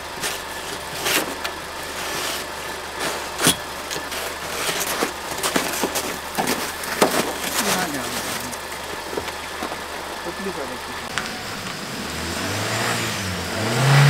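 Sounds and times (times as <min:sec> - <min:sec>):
car engine humming: 0:00.0 - 0:14.0.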